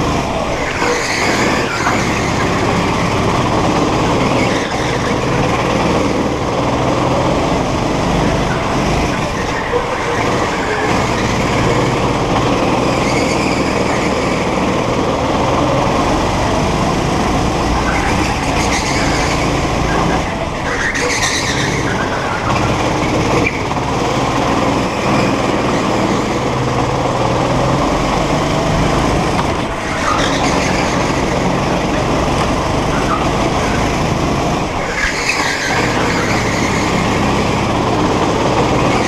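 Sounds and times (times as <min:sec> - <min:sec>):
go-kart motor running hard: 0:00.0 - 0:39.0
tyre and road noise: 0:00.0 - 0:39.0
tyres squealing: 0:00.3 - 0:39.0.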